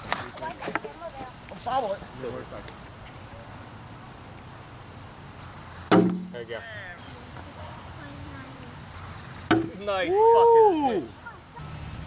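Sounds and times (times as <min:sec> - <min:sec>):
high insect buzz: 0:00.7 - 0:10.1, 0:10.8 - 0:12.0.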